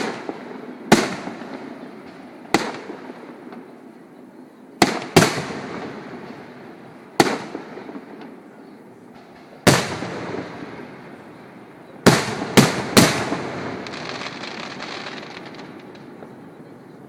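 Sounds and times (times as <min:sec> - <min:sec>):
fireworks crackle and rumble: 0:00.0 - 0:17.0.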